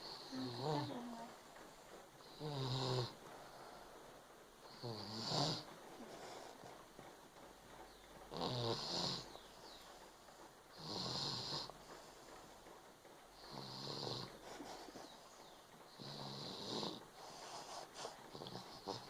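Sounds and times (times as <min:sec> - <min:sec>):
small clicks and snuffles: 0:00.0 - 0:19.0.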